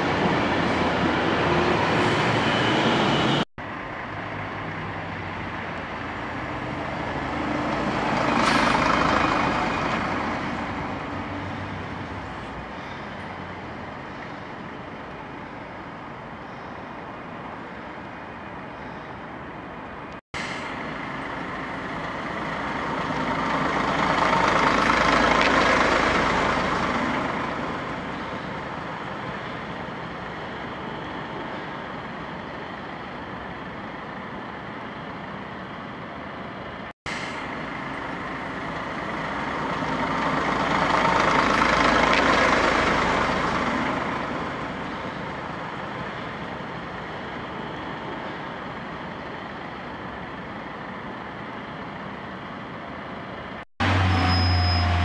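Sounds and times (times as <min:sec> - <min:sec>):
bus engine driving slowly: 0:00.0 - 0:55.0
electric train at station: 0:00.0 - 0:55.0.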